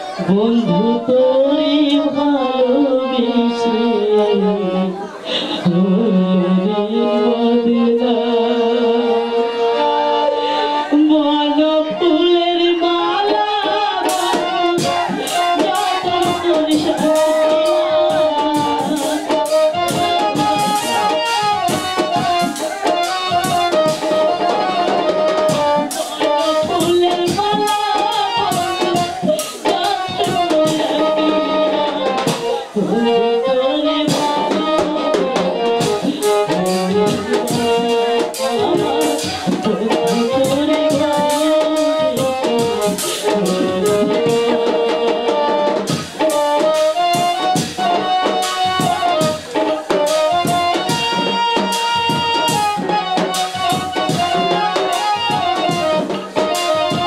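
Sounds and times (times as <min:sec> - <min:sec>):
band with drums and percussion: 0:00.0 - 0:57.0
woman singing over a pa: 0:00.0 - 0:57.0.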